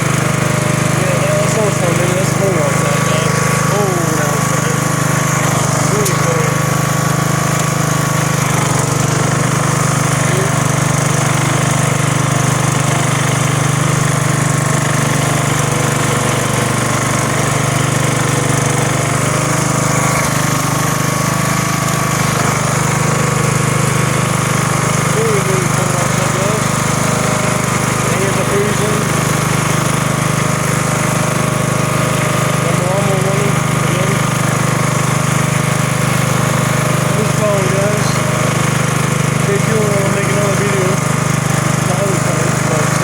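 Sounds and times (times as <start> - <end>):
snow machine engine running: 0.0 - 43.0.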